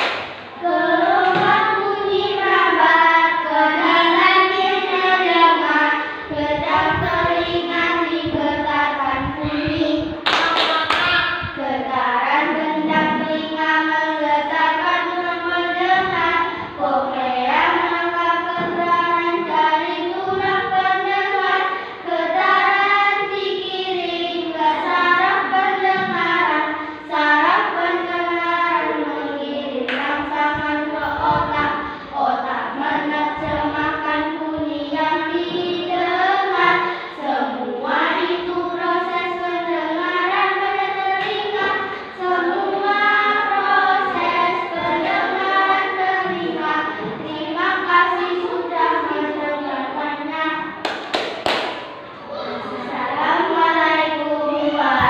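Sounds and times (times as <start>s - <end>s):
children singing: 0.0s - 50.8s, 51.6s - 55.0s.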